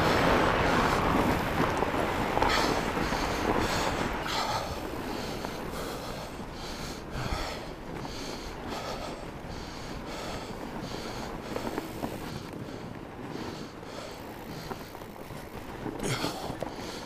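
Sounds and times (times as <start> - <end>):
wind on microphone: 0.0 - 16.8
fat tyres rumbling on snow: 0.0 - 17.0
rider breathing hard: 0.0 - 17.0.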